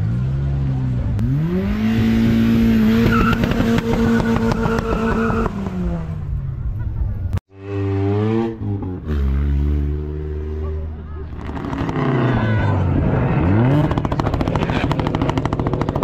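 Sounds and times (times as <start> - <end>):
car engine revving: 0.0 - 6.4, 7.5 - 16.0.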